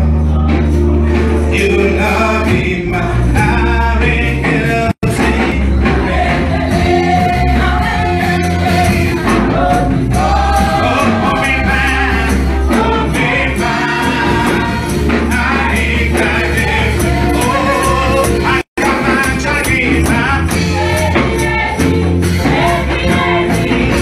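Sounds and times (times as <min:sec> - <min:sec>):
bass: 0:00.0 - 0:24.0
singers: 0:00.0 - 0:24.0
steady drum beat: 0:00.0 - 0:24.0.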